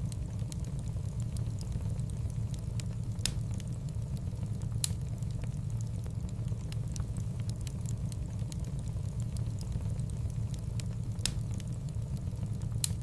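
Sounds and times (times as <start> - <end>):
steady low rumble: 0.0 - 13.0
wood fire crackling: 0.0 - 13.0.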